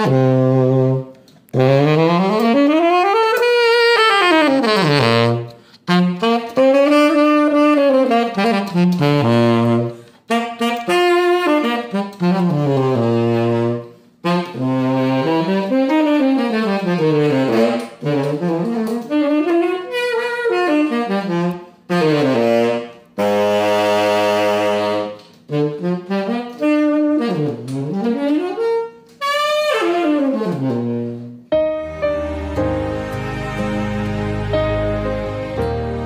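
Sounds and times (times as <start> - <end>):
tenor saxophone melody: 0.0 - 36.0.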